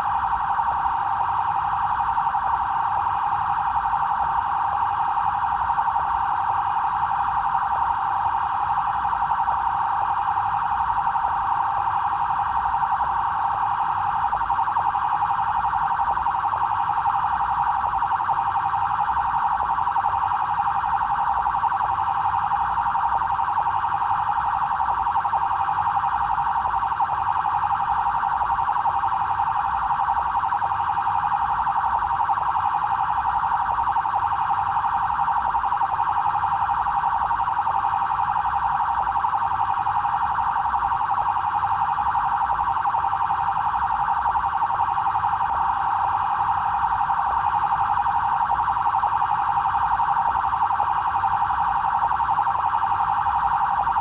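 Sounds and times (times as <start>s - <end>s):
police siren steady tone: 0.0s - 54.0s.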